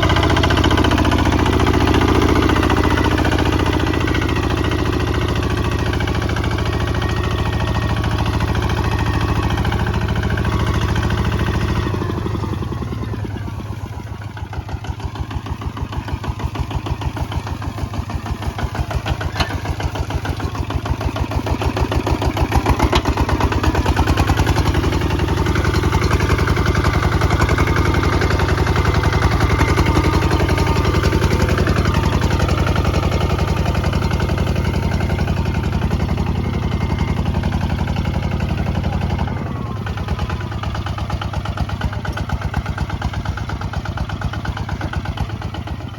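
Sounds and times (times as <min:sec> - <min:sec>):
single-cylinder diesel engine running: 0:00.0 - 0:45.9.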